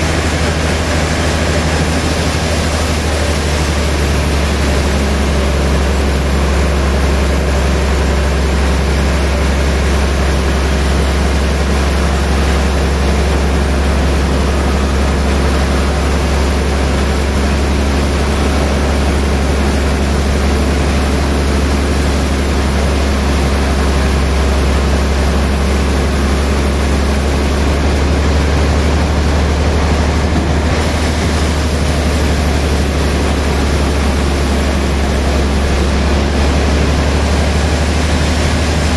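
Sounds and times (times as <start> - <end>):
band saw humming: 0.0 - 38.9.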